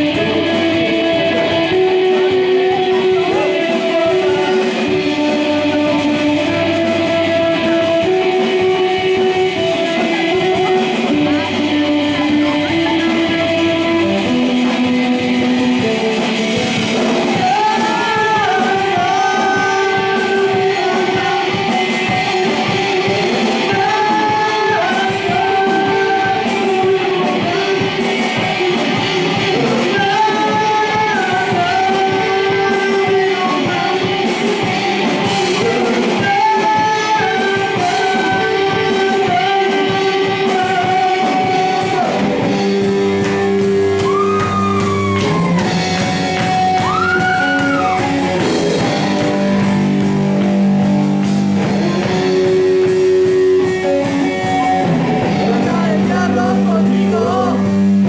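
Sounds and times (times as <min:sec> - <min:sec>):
bent guitar notes: 0:00.0 - 0:58.0
person singing: 0:00.0 - 0:58.0
rock band playing: 0:00.0 - 0:58.0.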